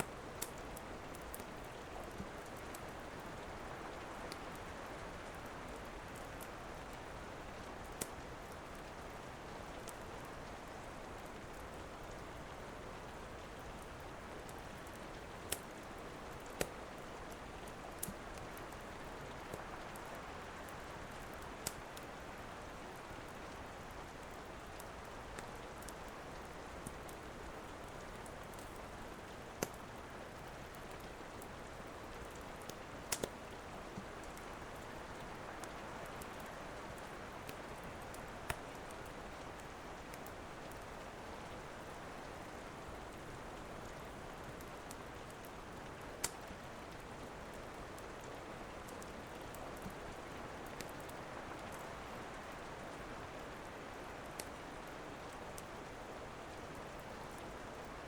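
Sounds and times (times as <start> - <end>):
wood fire crackling: 0.0 - 57.8
steady rain: 0.0 - 58.0.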